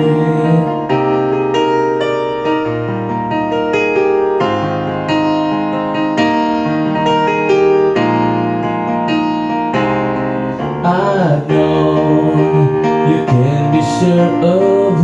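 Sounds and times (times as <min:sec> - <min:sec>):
keyboard playing held chords: 0:00.0 - 0:15.0.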